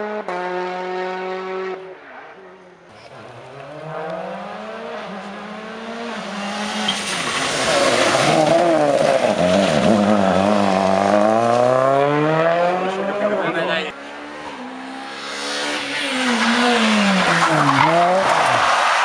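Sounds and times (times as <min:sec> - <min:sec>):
rally car engine revving: 0:02.9 - 0:19.0.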